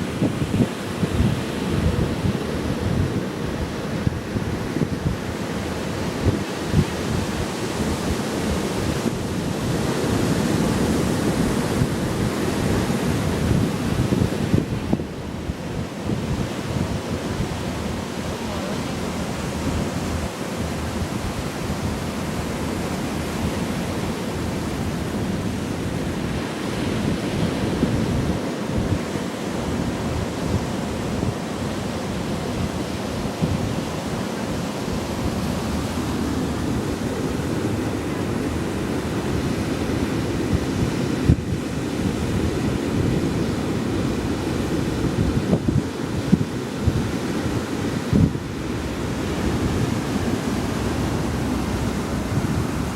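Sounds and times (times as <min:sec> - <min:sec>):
surf washing onto beach: 0:00.0 - 0:52.9
wind buffeting microphone: 0:00.0 - 0:52.9.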